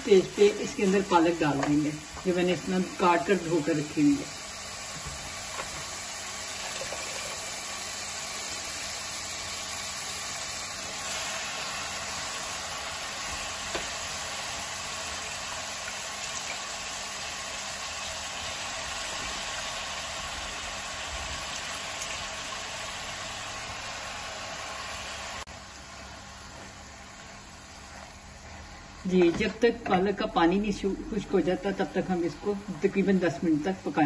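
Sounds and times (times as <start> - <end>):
food sizzling in a wok: 0.0 - 34.0.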